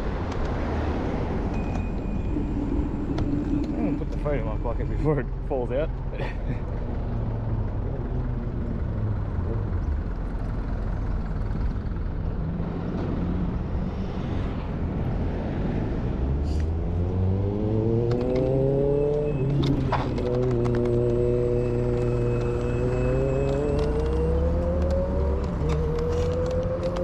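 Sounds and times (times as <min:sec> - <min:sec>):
road rumble: 0:00.0 - 0:27.0.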